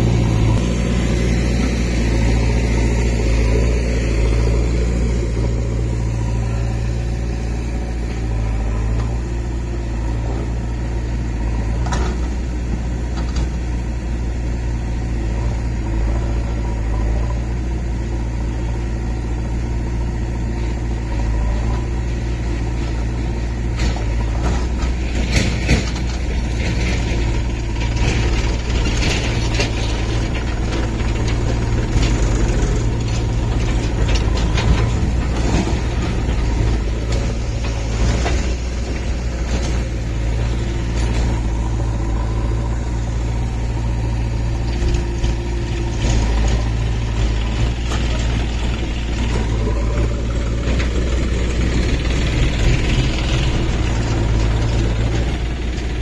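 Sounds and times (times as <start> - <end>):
backhoe clattering and knocking: 0.0 - 56.0
tractor diesel engine idling: 0.0 - 56.0.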